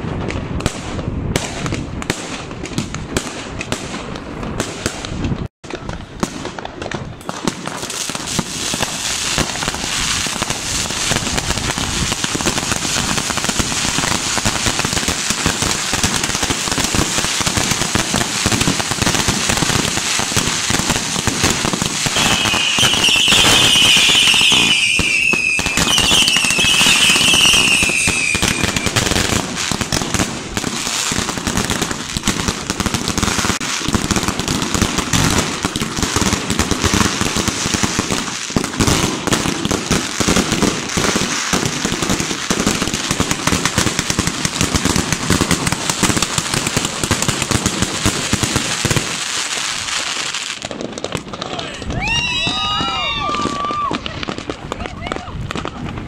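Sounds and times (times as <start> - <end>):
fireworks bangs and crackling: 0.0 - 56.0
whistling fireworks: 0.0 - 56.0.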